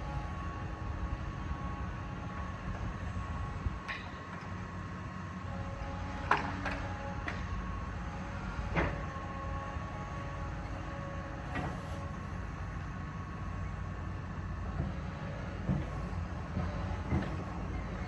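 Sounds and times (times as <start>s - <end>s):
diesel engine running: 0.0s - 18.0s
faint hydraulic whine: 0.0s - 18.0s.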